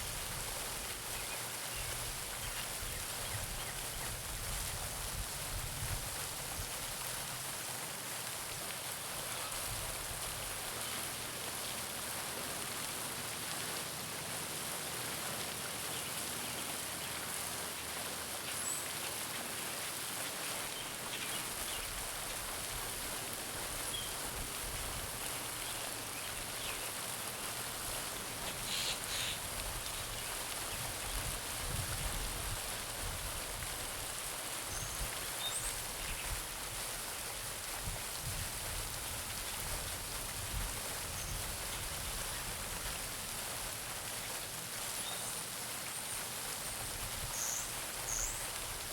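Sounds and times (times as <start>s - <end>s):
fountain splashing into pond: 0.0s - 48.9s.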